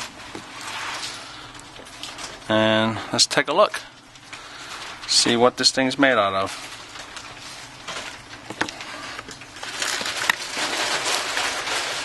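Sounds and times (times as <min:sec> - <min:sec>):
crackling scraping rustle: 0:00.0 - 0:02.5, 0:04.0 - 0:05.5, 0:06.3 - 0:12.0.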